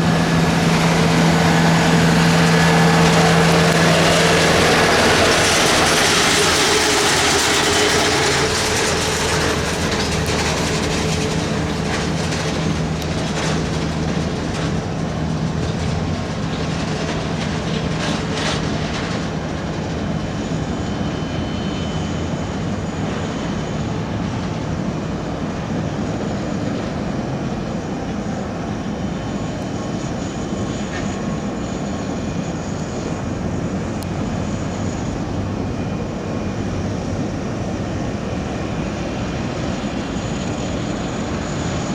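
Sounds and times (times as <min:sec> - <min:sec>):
jet engine high hiss: 0:00.0 - 0:41.9
jet engine rumble: 0:00.0 - 0:41.9.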